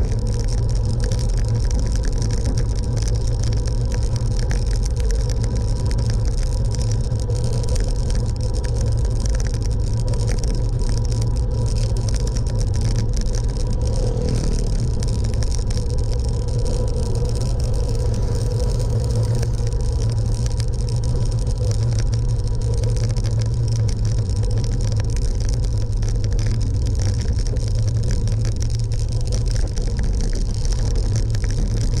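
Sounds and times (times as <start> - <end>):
low road rumble: 0.0 - 32.0.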